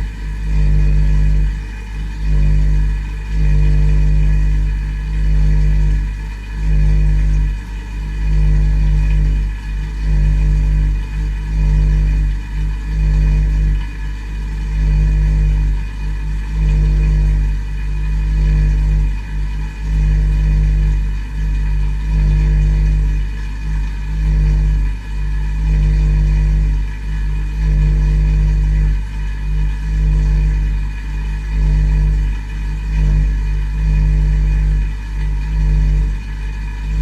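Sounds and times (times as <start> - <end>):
dishwasher pump humming: 0.0 - 37.0.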